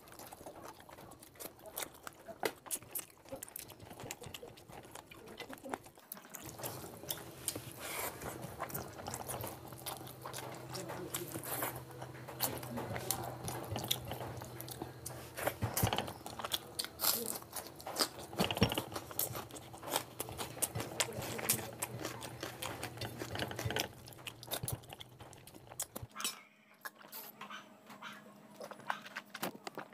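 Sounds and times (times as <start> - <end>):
person chewing food: 0.0 - 29.9.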